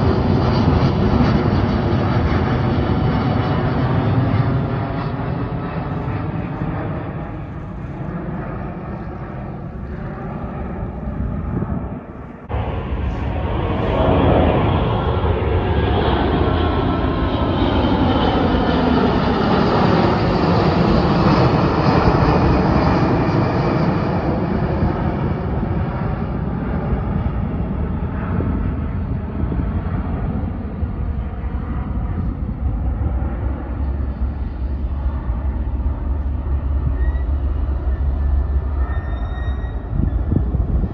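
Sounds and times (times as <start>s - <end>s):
jet airliner engines rumbling: 0.0s - 40.9s.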